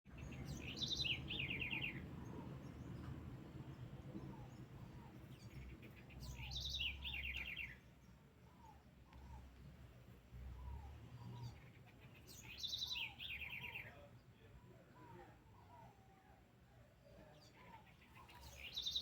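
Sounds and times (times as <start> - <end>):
songbird singing: 0.1 - 19.0.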